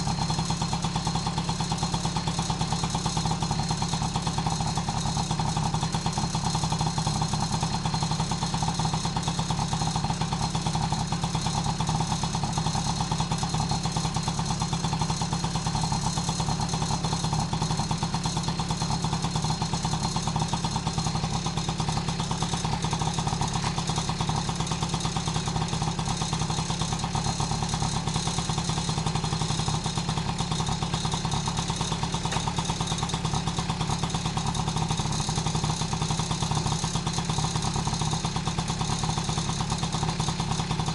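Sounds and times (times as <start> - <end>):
small two-stroke engine idling: 0.0 - 40.9.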